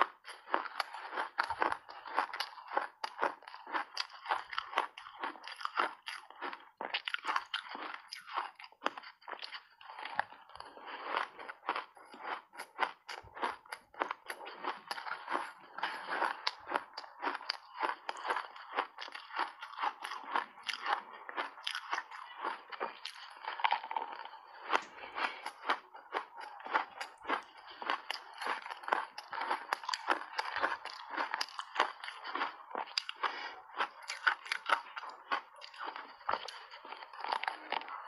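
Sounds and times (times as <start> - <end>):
crunching ice: 0.4 - 38.0.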